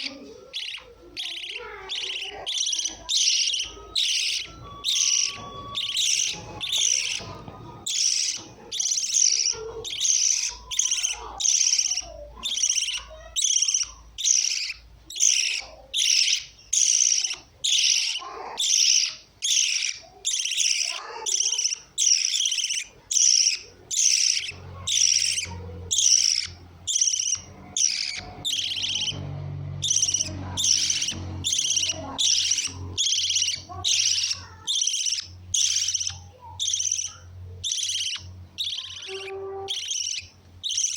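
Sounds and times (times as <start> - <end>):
lovebirds chirping: 0.0 - 40.9.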